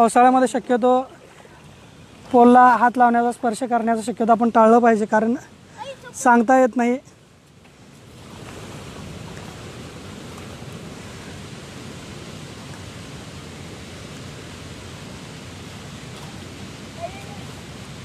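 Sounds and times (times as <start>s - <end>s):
rushing water: 0.0s - 18.0s
wind: 0.0s - 18.0s.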